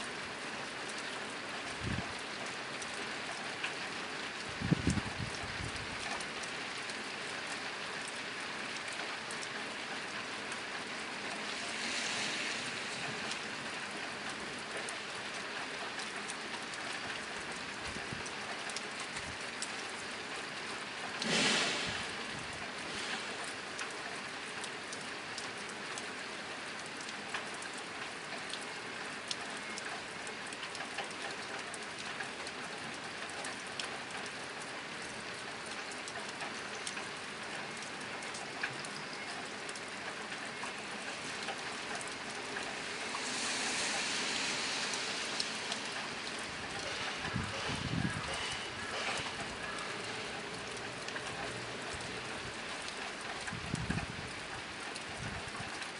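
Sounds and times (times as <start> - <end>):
rain on a tin roof: 0.0 - 55.9.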